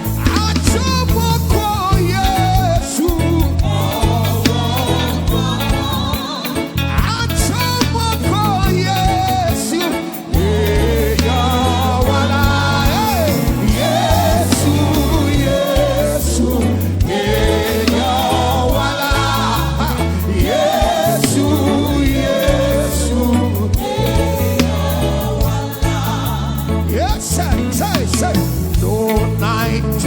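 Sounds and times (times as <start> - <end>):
bass line: 0.0 - 30.0
drums: 0.0 - 30.0
choir singing: 1.9 - 6.8, 8.6 - 29.3.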